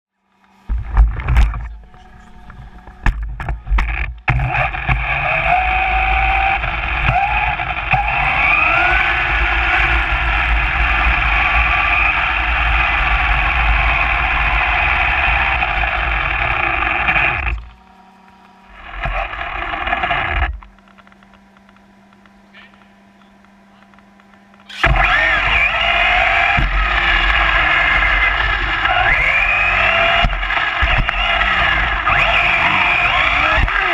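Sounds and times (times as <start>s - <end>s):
electric motor and gear whine: 0.2s - 33.9s.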